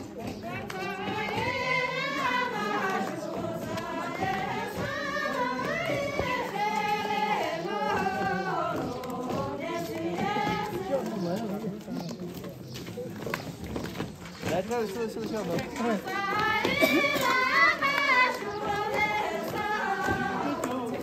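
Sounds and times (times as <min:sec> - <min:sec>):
group singing folk song: 0:00.0 - 0:11.9, 0:15.5 - 0:21.0.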